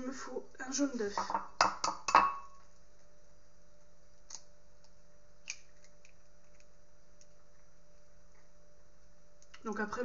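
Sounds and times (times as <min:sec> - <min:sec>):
faint mains hum: 0:00.0 - 0:10.0.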